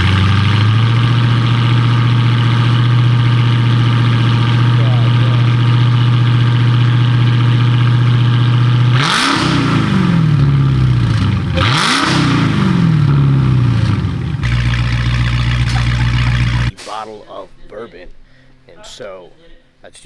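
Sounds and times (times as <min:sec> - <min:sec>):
car engine idling and revving: 0:00.0 - 0:16.8.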